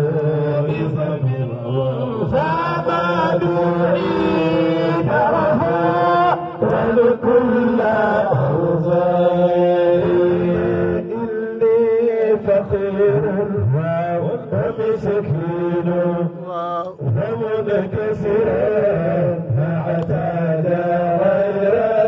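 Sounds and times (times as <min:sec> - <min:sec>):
men chanting over pa system: 0:00.0 - 0:22.0.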